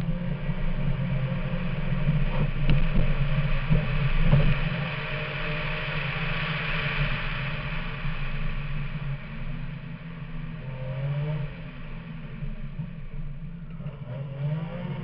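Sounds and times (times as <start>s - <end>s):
rally car engine under load: 0.0s - 15.0s
road and tyre noise: 0.0s - 15.0s.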